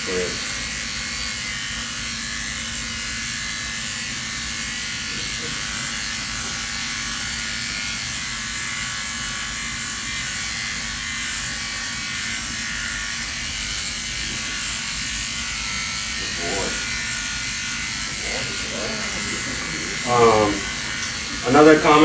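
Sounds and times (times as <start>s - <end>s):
electric clippers buzzing: 0.0s - 22.0s.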